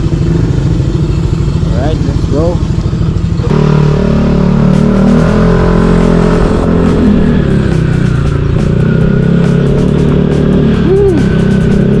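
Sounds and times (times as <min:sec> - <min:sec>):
motorcycle exhaust: 0:00.0 - 0:12.0.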